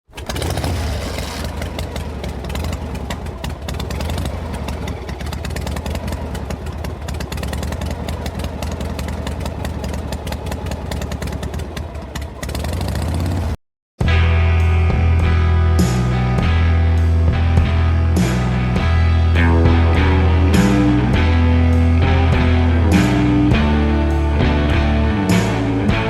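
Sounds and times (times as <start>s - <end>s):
engine droning with fast pulse: 0.1s - 13.6s, 18.2s - 26.0s.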